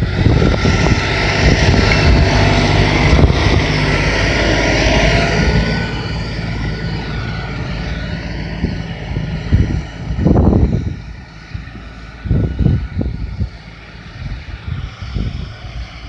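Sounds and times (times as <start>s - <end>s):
low rumbling surges: 0.0s - 16.0s
tractor engine running: 0.0s - 16.0s.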